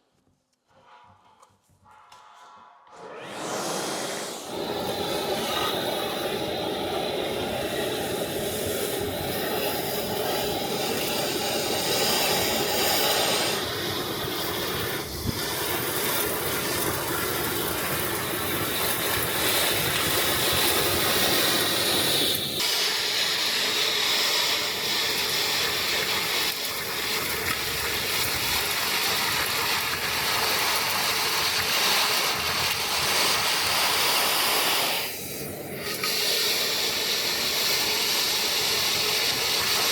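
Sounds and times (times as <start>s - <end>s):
industrial vacuum running: 2.9s - 39.9s
debris sucked through hose: 3.0s - 39.9s.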